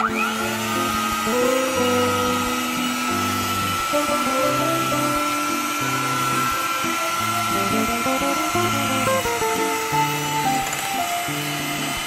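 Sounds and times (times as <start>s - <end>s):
background music: 0.0s - 12.0s
electric hand mixer whining: 0.0s - 12.0s.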